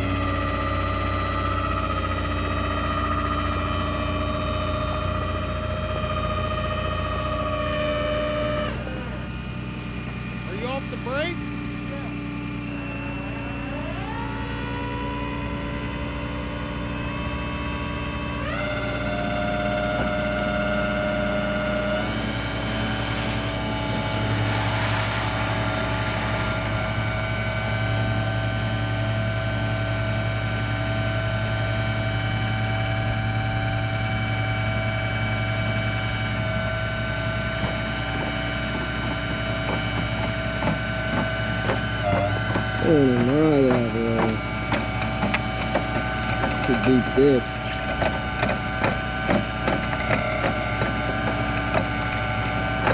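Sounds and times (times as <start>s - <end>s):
tow truck engine under load: 0.0s - 52.9s.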